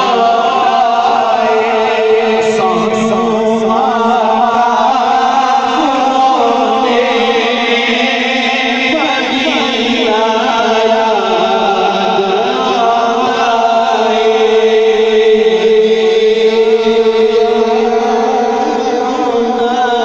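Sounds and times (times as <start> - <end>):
men singing through loudspeakers: 0.0 - 20.0.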